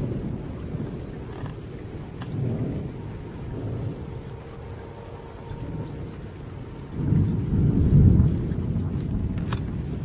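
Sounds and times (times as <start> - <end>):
rolling thunder: 0.0 - 10.0.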